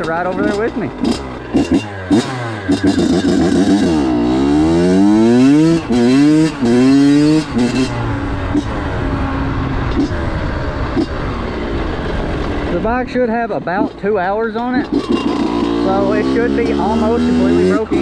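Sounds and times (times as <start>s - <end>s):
two-stroke engine accelerating: 0.0s - 18.0s.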